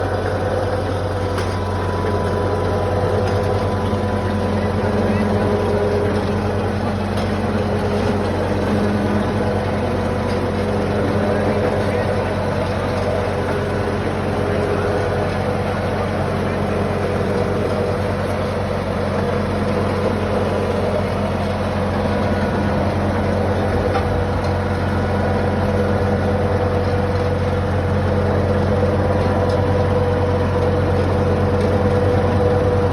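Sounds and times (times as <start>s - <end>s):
diesel tractor engine running: 0.0s - 32.9s.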